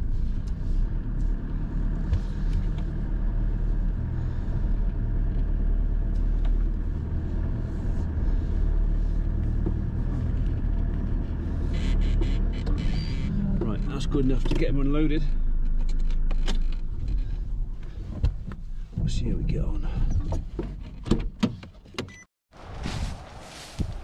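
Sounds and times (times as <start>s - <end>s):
engine low rumble: 0.0s - 21.3s.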